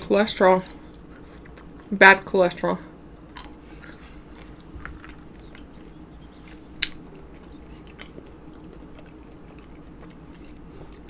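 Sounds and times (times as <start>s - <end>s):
chewing nuts crunching: 0.6s - 2.0s, 2.9s - 11.0s.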